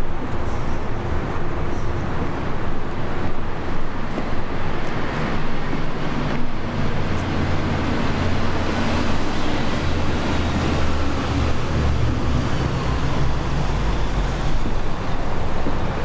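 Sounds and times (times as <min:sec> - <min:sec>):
boat engine droning: 0:00.0 - 0:16.0
wind: 0:00.0 - 0:16.0.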